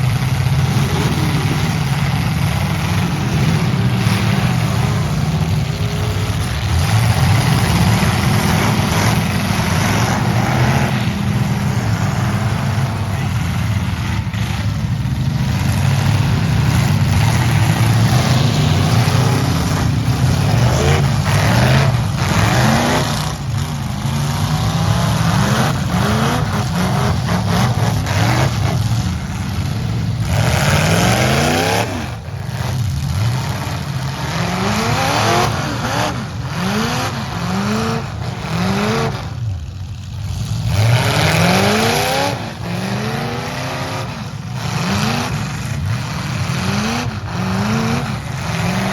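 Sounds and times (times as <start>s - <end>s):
truck engines revving: 0.0s - 48.9s.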